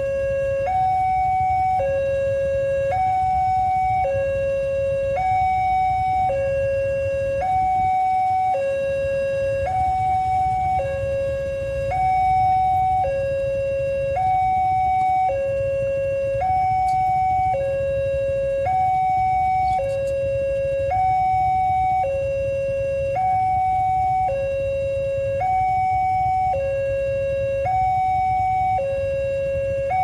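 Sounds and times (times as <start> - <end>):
level crossing two-tone alarm: 0.0 - 30.0.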